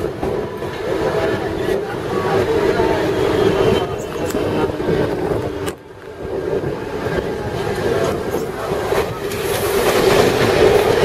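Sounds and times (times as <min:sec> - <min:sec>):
passing train rushing hiss: 0:00.0 - 0:11.0
train wheels rumbling on rail: 0:00.0 - 0:11.0.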